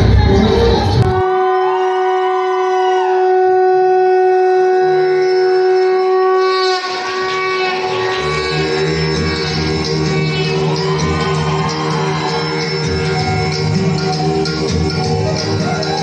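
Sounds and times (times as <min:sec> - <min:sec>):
other music: 0:00.0 - 0:01.8, 0:03.0 - 0:16.0
electronic dance music: 0:00.0 - 0:03.6, 0:04.2 - 0:16.0
conch shell long note: 0:00.0 - 0:16.0.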